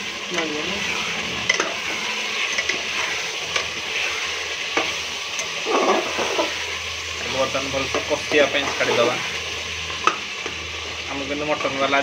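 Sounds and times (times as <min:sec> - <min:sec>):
curry sizzling in a pot: 0:00.0 - 0:12.0.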